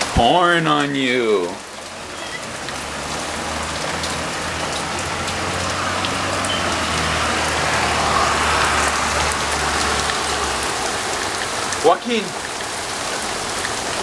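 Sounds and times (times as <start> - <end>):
heavy rain on hard surfaces: 0.0 - 14.0
raindrops ticking: 0.0 - 14.0.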